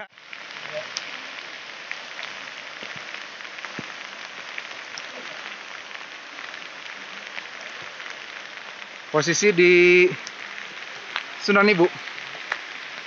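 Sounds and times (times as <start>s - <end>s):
rain on paving and roofs: 0.0s - 13.0s.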